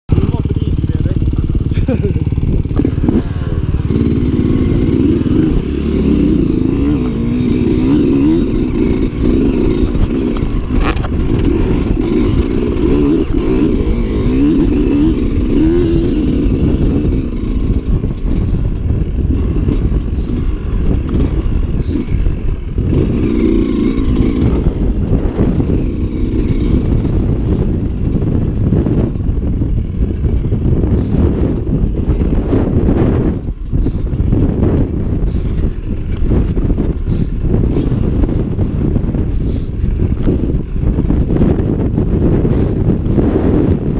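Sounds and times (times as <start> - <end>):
dirt bike engine revving: 0.1 - 43.9.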